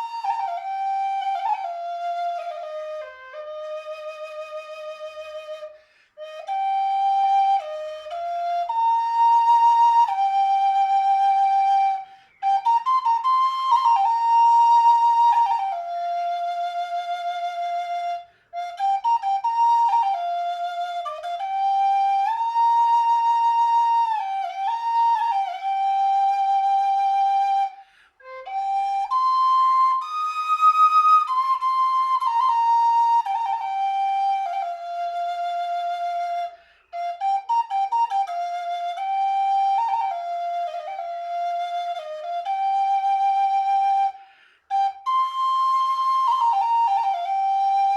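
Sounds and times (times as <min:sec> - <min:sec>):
solo flute melody: 0:00.0 - 0:47.9.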